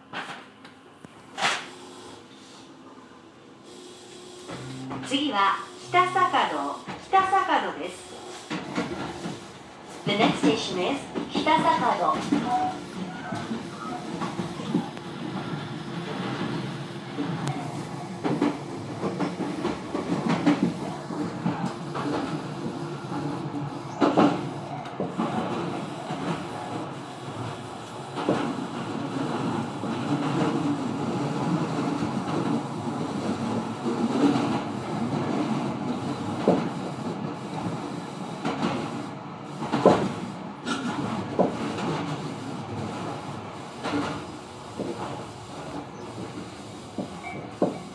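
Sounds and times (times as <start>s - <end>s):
train rumbling at speed: 4.4s - 47.9s.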